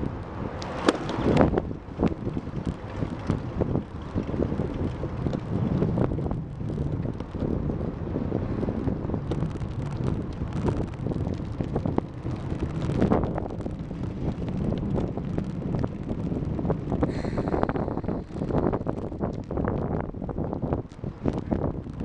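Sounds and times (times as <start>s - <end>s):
wind buffeting microphone: 0.0s - 22.0s
bicycle clicks and rattles: 0.6s - 7.9s, 8.5s - 22.0s.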